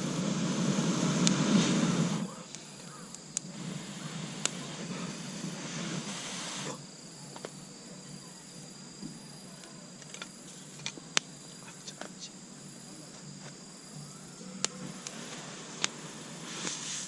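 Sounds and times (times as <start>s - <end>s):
campfire pops and crackles: 0.0s - 7.7s, 9.0s - 12.3s, 13.0s - 17.0s
insect trilling: 0.0s - 17.0s
loud hiss: 0.0s - 17.0s.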